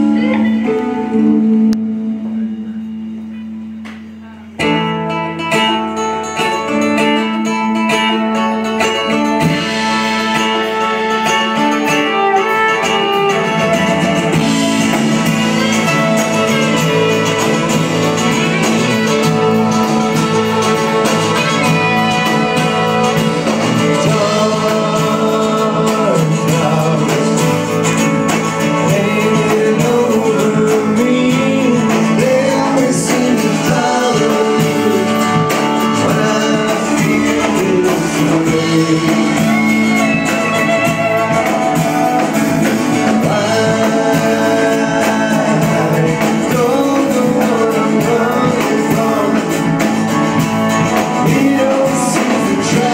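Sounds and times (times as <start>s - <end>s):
live country-rock band: 0.0s - 52.9s
man singing lead: 8.9s - 52.9s.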